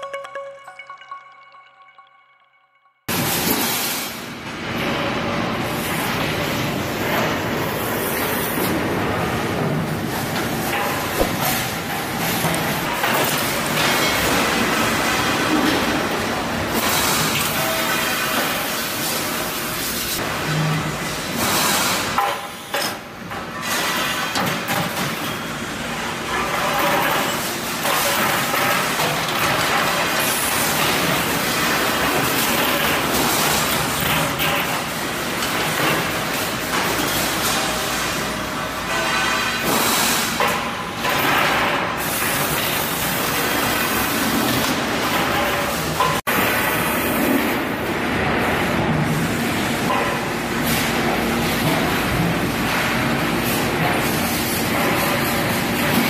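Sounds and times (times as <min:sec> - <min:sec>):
factory machinery running: 0:03.1 - 0:56.0.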